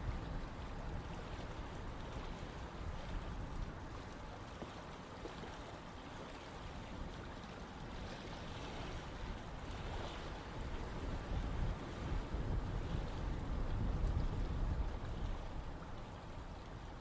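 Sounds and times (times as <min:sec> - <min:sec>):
stream flowing: 0:00.0 - 0:17.0.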